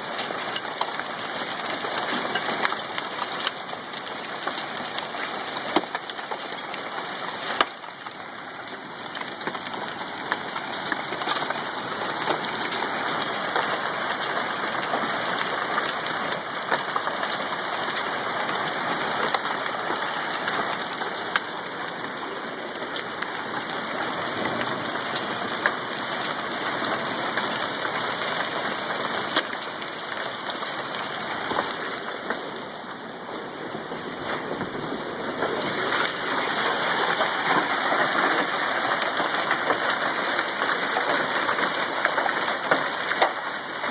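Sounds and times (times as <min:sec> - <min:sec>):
hailstones clicking on hard surfaces: 0:00.0 - 0:43.9
heavy rain: 0:00.0 - 0:43.9.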